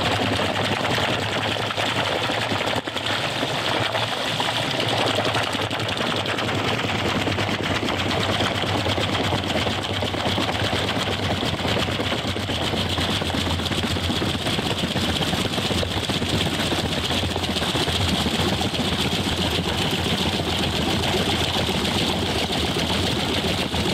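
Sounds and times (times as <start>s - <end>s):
water turbine rattle: 0.0s - 23.9s.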